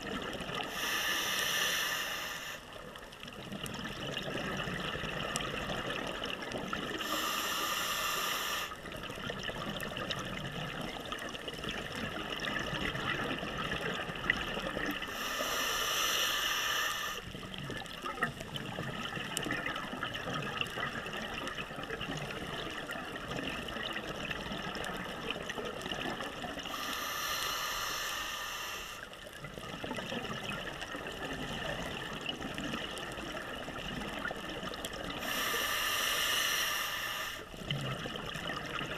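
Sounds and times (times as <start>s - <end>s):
steady underwater crackle: 0.0s - 38.9s
underwater exhaled air bubbling: 0.0s - 38.9s.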